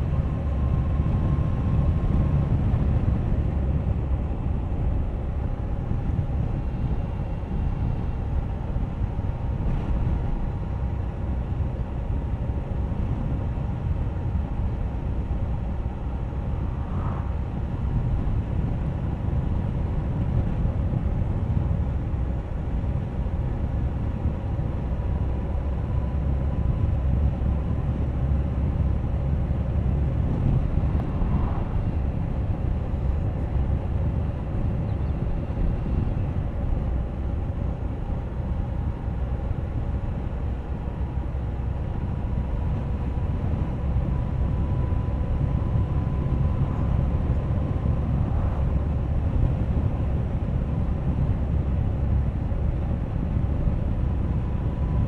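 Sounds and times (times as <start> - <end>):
low rumble of riding noise: 0.0 - 55.0.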